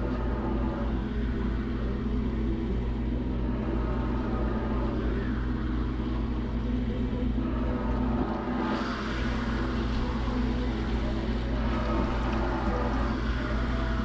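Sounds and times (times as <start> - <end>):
faint hum: 0.0 - 14.0
steady low rumble: 0.0 - 14.0.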